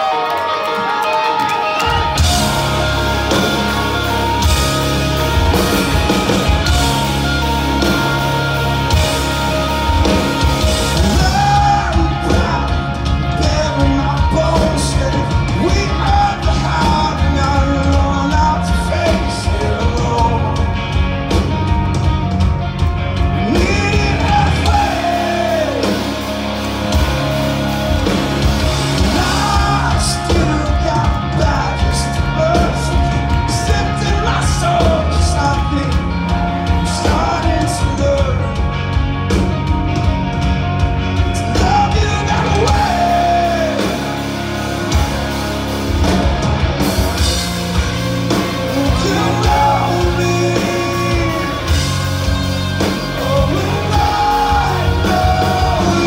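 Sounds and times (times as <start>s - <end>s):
person singing lead vocal: 0.0s - 21.5s, 23.1s - 39.1s, 41.2s - 45.2s, 47.2s - 56.0s
live rock band playing: 0.0s - 56.0s.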